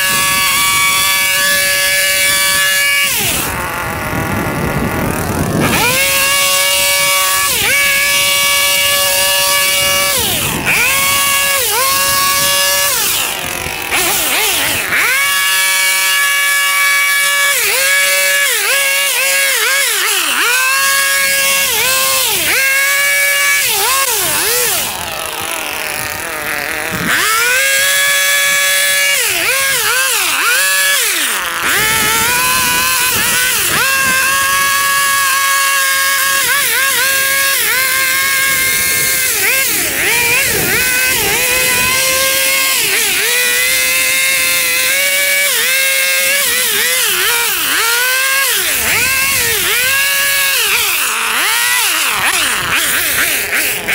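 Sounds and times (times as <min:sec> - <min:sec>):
small gas engine mowing: 0:00.0 - 0:53.9.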